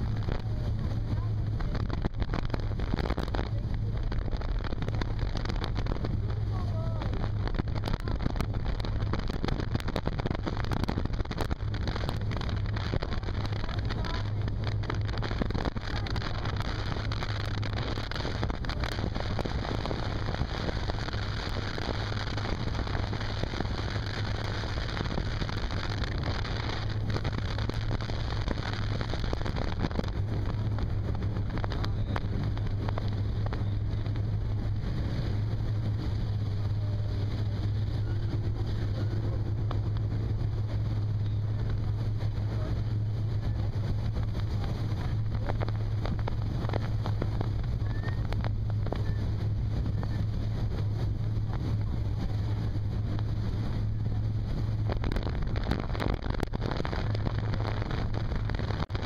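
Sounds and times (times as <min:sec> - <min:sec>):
motorboat engine drone: 0:00.0 - 0:59.0
rush of wind and water: 0:00.0 - 0:59.0.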